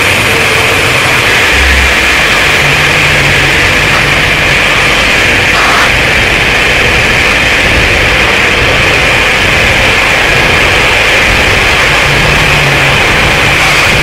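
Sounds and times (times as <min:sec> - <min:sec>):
harsh noise music: 0:00.0 - 0:14.0.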